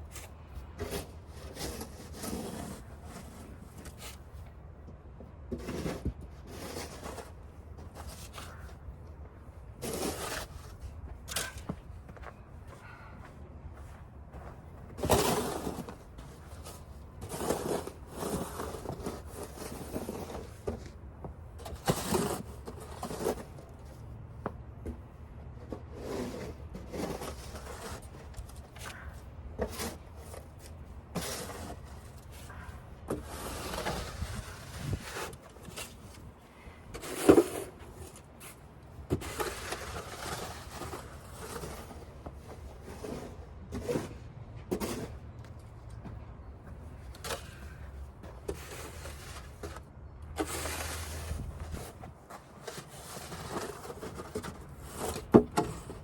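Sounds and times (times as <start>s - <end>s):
snow shovel scraping pavement: 0.1s - 4.3s, 5.5s - 8.7s, 9.8s - 11.6s, 14.9s - 21.0s, 21.6s - 23.8s, 25.7s - 36.3s, 36.9s - 45.2s, 47.0s - 56.0s.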